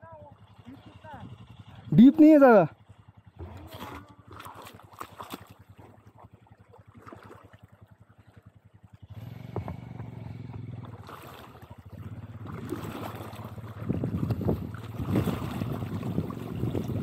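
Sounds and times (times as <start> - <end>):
motorcycle engine puttering: 0.0 - 6.4, 7.6 - 17.0
water splashing: 3.3 - 17.0.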